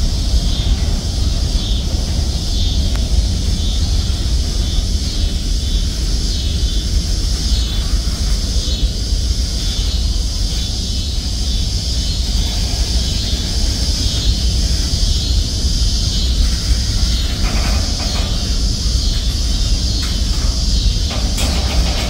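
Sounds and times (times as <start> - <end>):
constant high hiss: 0.0 - 22.0
train wheels rumbling on rails: 0.0 - 22.0.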